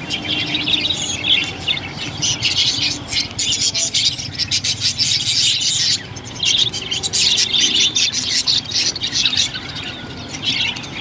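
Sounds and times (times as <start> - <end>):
budgerigars chirping and squawking: 0.0 - 11.0.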